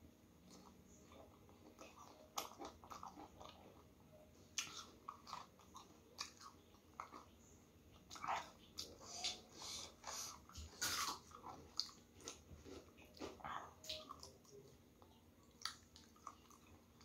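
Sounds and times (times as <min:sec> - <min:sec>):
person chewing noodles: 0:00.4 - 0:17.0.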